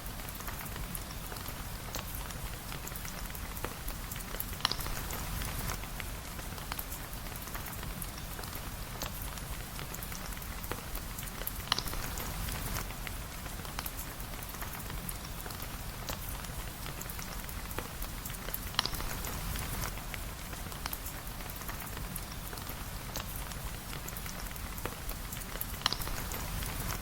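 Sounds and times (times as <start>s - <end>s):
rain dripping and ticking: 0.0s - 27.0s.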